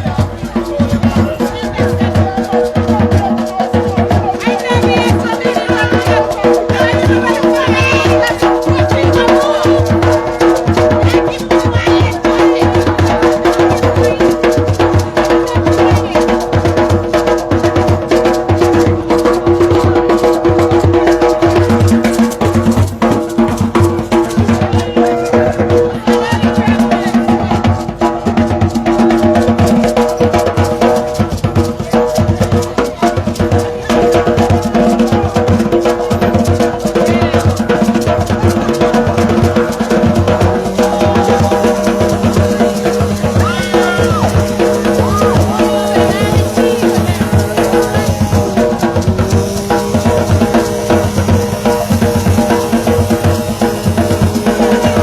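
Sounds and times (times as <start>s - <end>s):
drum and percussion beat: 0.0s - 55.0s
music with held notes: 0.0s - 55.0s.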